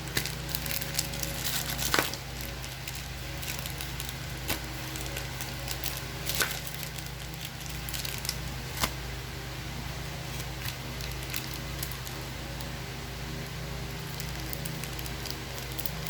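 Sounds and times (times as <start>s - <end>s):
foil pack crinkling and tearing: 0.0s - 9.0s, 10.3s - 12.3s, 13.9s - 16.0s
steady low hum: 0.0s - 16.0s.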